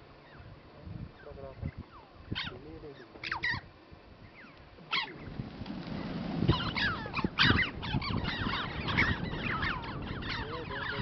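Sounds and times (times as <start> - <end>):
flock of birds calling: 0.1 - 11.0.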